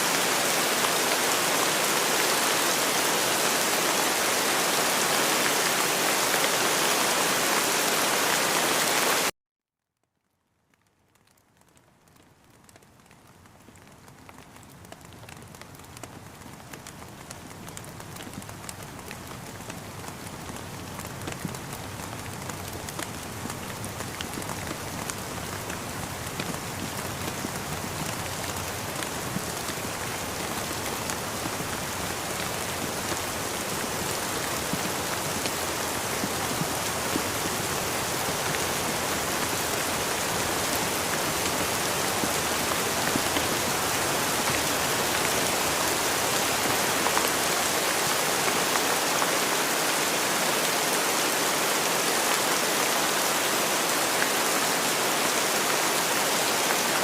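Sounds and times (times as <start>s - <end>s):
rain pattering on surfaces: 0.0s - 9.3s, 10.1s - 57.0s.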